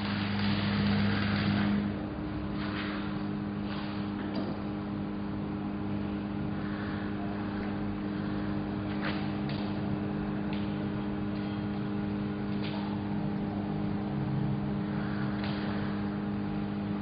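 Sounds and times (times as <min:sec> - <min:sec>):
arc welding machine humming: 0:00.0 - 0:17.0.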